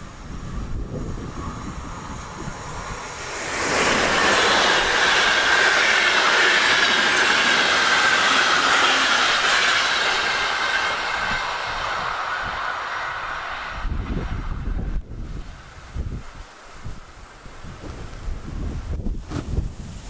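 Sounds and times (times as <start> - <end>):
wind on microphone: 0.0 - 8.5, 9.2 - 20.0
train rushing past: 0.0 - 19.2
wheels whining on rails: 0.0 - 20.0.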